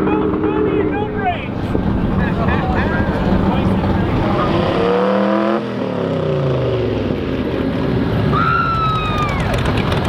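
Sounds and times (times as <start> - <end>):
racing car engine passing: 0.0 - 10.0.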